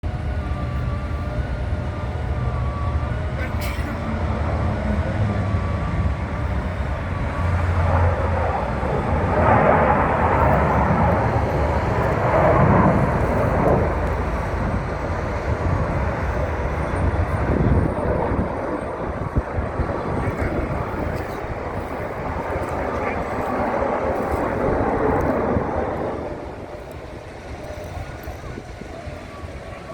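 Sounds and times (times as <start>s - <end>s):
aircraft engine passing: 0.0s - 29.9s.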